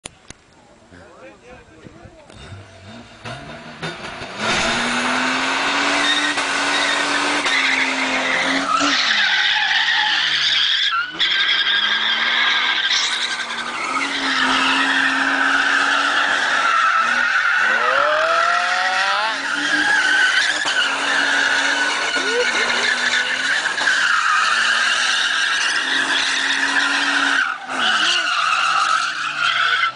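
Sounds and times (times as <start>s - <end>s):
car engine at high revs: 2.3s - 29.9s
tyres squealing: 5.8s - 29.9s.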